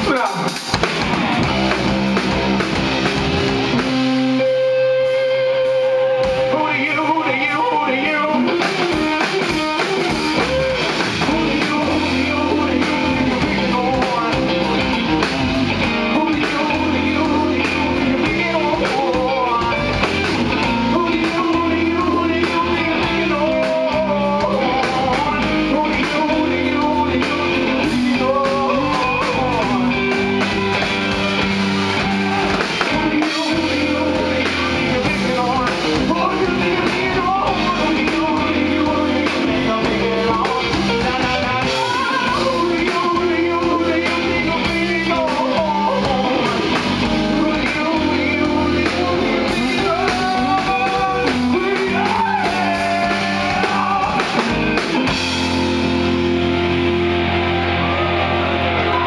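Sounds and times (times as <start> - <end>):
man singing: 0.0 - 1.8, 5.1 - 55.5, 57.3 - 59.0
bass guitar: 0.0 - 59.0
drum kit: 0.0 - 59.0
electric guitar: 0.0 - 59.0.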